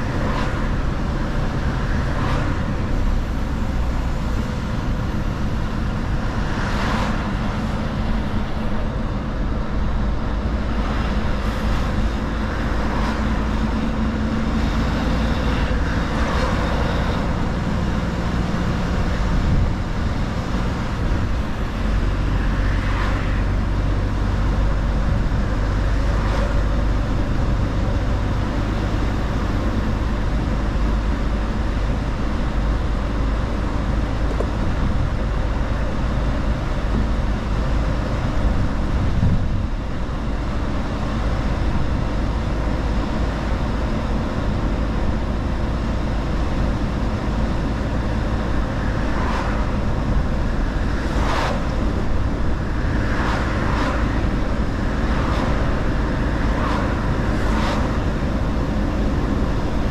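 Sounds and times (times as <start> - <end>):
truck engine drone: 0.0 - 59.9
tyre and road noise: 0.0 - 59.9.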